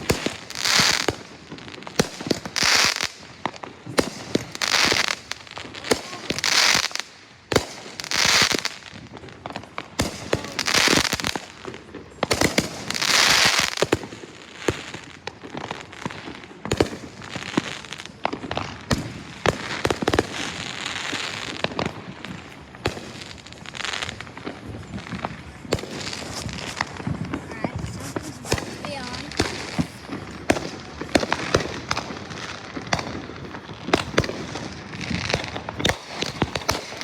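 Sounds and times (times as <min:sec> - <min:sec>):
fireworks bangs and pops: 0:00.0 - 0:37.0
fireworks hissing crackling bursts: 0:00.0 - 0:37.0.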